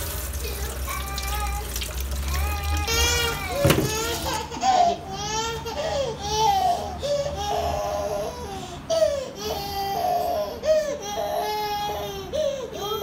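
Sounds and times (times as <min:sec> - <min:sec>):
toddler crying: 0:02.2 - 0:13.0.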